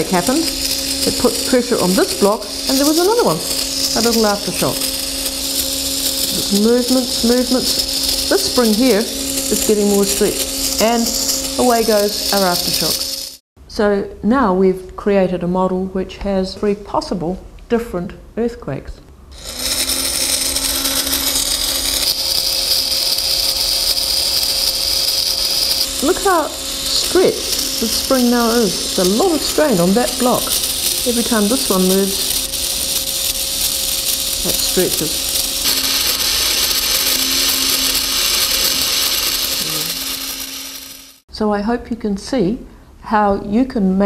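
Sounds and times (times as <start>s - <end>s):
small electric motor running: 0.0s - 13.4s, 19.3s - 41.3s.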